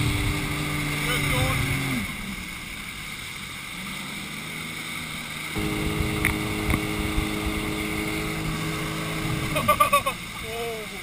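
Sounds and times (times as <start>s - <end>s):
motorboat engine running: 0.0s - 11.0s
rushing water: 0.0s - 11.0s.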